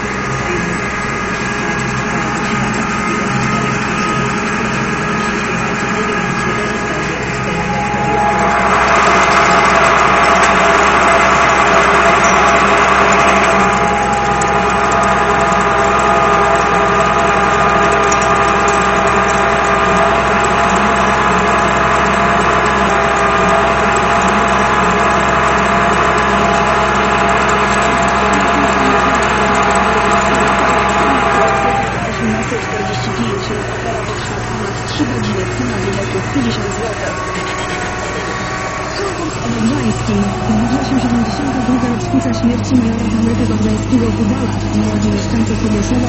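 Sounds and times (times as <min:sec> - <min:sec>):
tractor diesel engine drone: 0:00.0 - 0:46.0.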